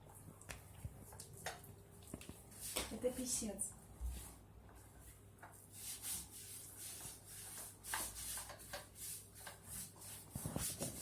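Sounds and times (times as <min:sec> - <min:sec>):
paint rubbing strokes on wall: 0:02.0 - 0:11.0.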